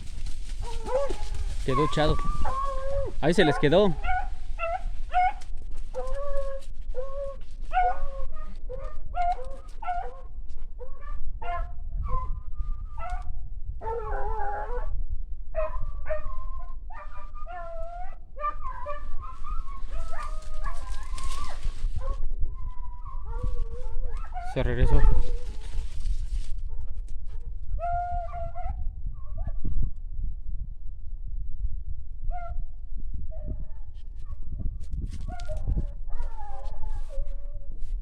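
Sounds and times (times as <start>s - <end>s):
hounds baying and yelping: 0.0s - 29.6s, 35.1s - 38.0s.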